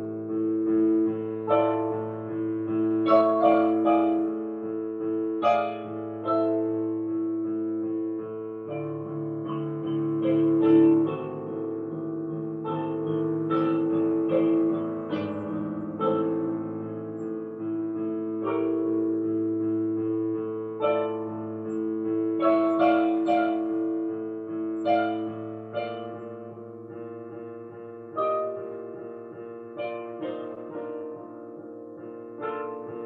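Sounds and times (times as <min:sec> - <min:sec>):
slow piano chords and notes: 0:00.0 - 0:33.0.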